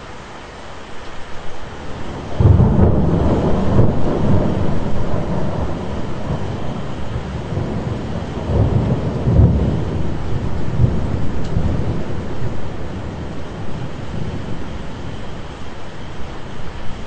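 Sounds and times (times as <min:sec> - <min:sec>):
steady rain: 0:00.0 - 0:17.0
thunder rumbling: 0:01.5 - 0:17.0.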